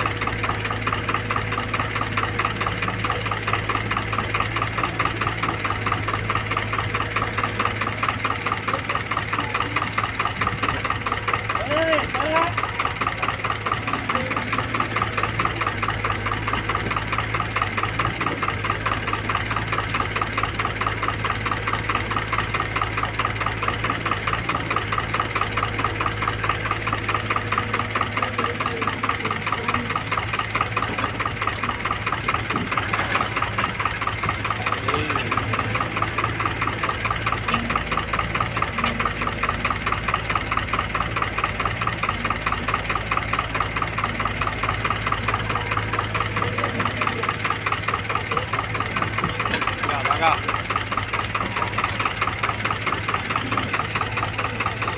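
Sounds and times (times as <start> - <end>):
diesel engine chugging: 0.0 - 54.9.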